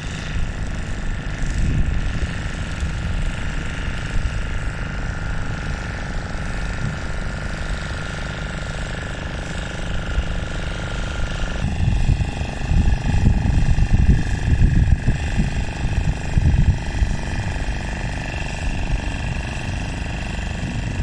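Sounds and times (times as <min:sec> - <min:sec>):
engine running with whine: 0:00.0 - 0:21.0.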